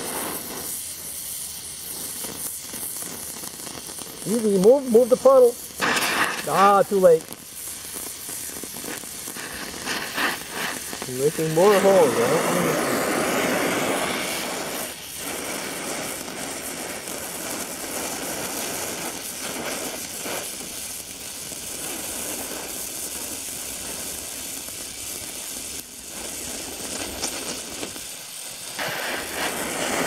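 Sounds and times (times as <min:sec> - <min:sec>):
welding torch flame hissing: 0:00.0 - 0:30.0.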